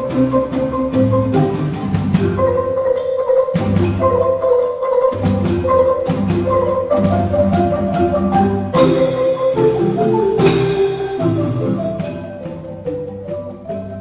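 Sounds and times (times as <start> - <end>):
marimba ensemble playing: 0.0 - 14.0.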